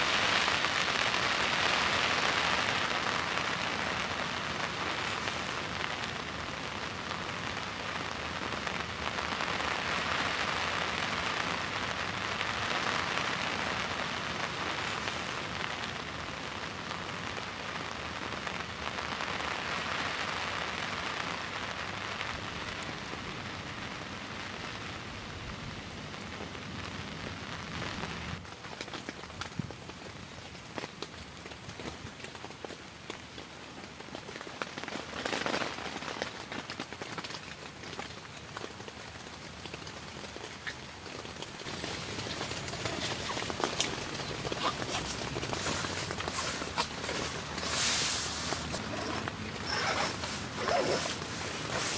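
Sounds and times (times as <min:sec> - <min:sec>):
heavy rain hissing: 0:00.0 - 0:28.5, 0:34.8 - 0:51.9
raindrops ticking and tapping: 0:00.0 - 0:51.9.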